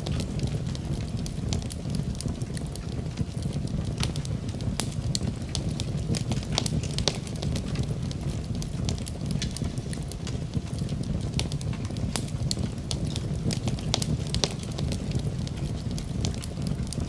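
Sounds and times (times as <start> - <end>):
fire popping and snapping: 0.0 - 17.0
low fire rumble: 0.0 - 17.0
wood fire crackling: 0.0 - 17.0.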